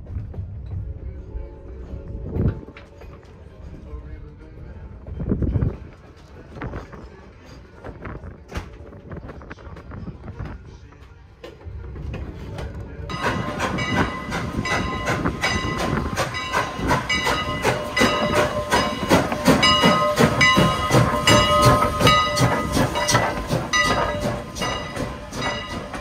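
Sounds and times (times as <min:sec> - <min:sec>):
steam train running: 0:00.0 - 0:26.0.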